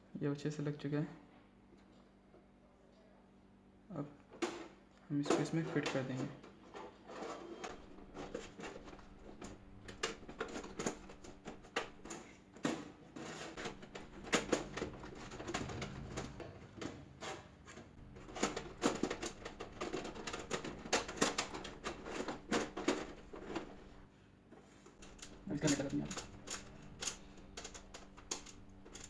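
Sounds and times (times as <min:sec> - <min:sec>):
metal and plastic clatter: 0:04.4 - 0:24.0, 0:24.8 - 0:29.0.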